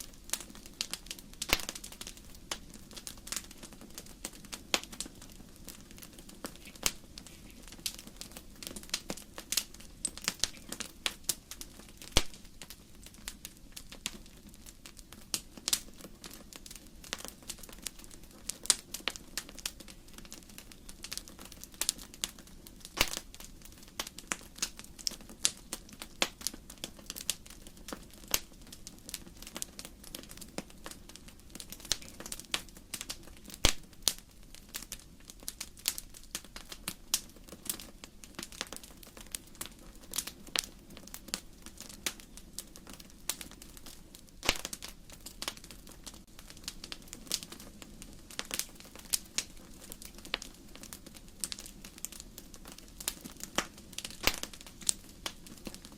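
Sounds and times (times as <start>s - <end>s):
firewood crackling and popping: 0.0s - 55.9s.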